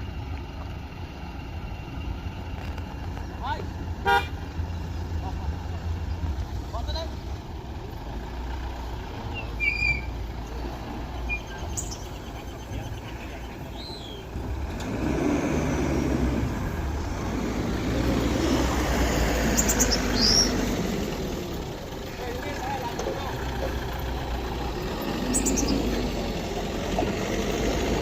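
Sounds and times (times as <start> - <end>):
diesel construction machinery running: 0.0 - 28.0
birds chirping: 1.7 - 28.0.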